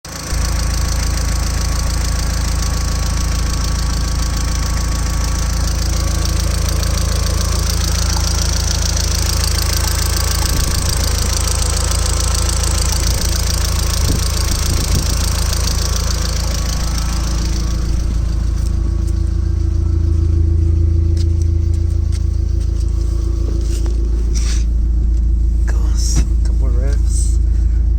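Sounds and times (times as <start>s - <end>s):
turbocharged car engine running: 0.0s - 27.9s.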